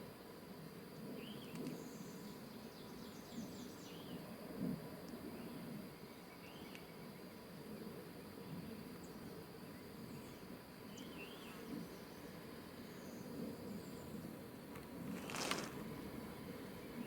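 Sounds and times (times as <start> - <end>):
distant songbirds singing: 0.0 - 17.0
faint outdoor background noise: 0.0 - 17.0.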